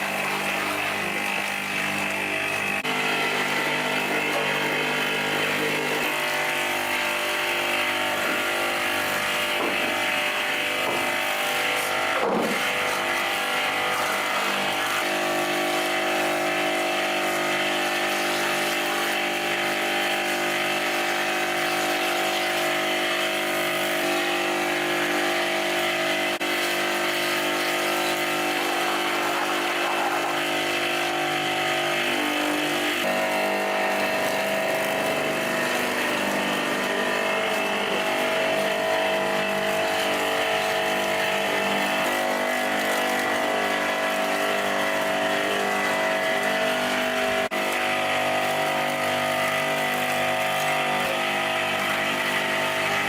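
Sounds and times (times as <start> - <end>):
motor-driven machine running: 0.0 - 53.0.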